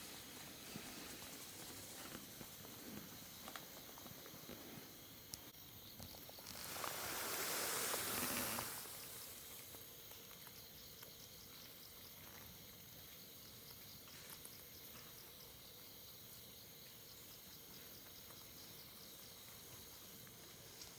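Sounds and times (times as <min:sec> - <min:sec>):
insects: 0:00.0 - 0:20.9.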